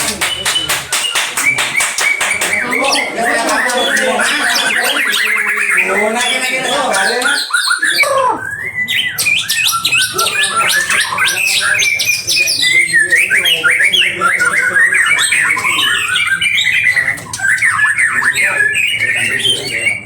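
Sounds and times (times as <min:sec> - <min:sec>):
songbird singing trills: 0:00.0 - 0:20.0.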